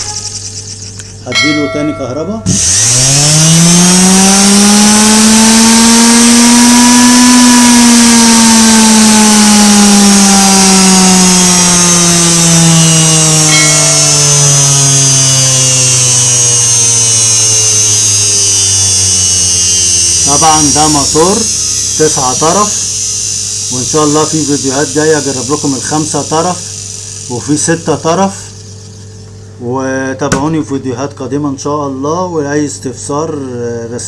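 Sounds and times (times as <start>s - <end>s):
motor brush hiss: 0.0s - 1.2s, 2.4s - 29.2s
electric motor whine: 0.0s - 29.4s.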